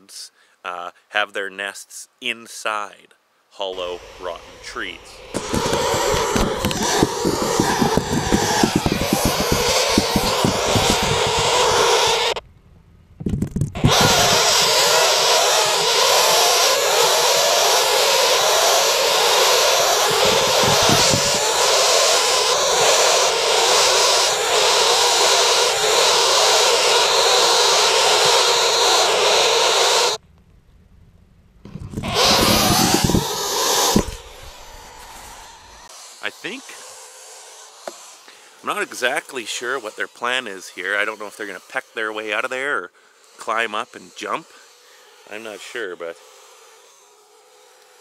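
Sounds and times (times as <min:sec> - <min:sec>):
nestling birds buzzing and hissing: 0:03.7 - 0:12.4, 0:13.8 - 0:30.2, 0:32.0 - 0:48.0.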